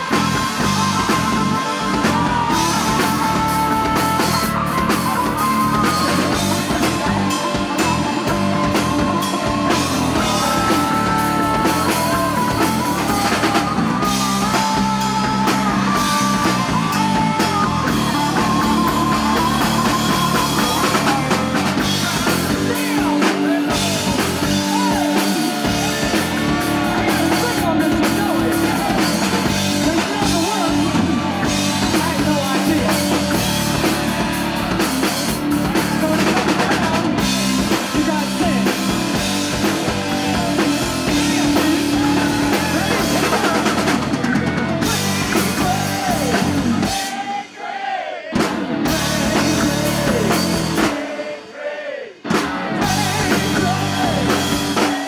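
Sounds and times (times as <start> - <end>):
electric bass: 0.0 - 47.0, 48.4 - 51.0, 52.3 - 55.0
wavering lead guitar: 0.0 - 47.0, 48.4 - 51.0, 52.2 - 55.0
electric guitar: 0.0 - 47.1, 48.4 - 51.0, 52.2 - 55.0
drum kit: 0.0 - 47.6, 48.3 - 51.4, 52.2 - 55.0.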